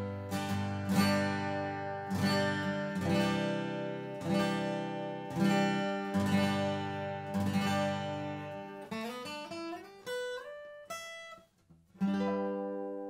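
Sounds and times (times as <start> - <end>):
acoustic guitar chords strummed: 0.0 - 13.0.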